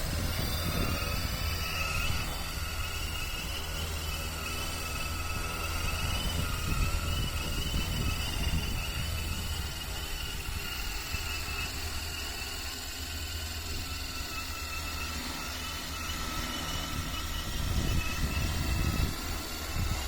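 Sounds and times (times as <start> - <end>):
wind rumble on microphone: 0.0 - 12.4, 15.8 - 20.0
drone rotors humming: 0.0 - 20.0.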